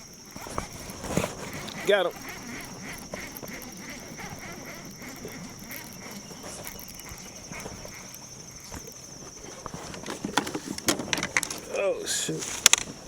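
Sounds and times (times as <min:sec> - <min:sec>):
insects droning high-pitched: 0:00.0 - 0:13.0
pulsing insect call: 0:00.0 - 0:13.0.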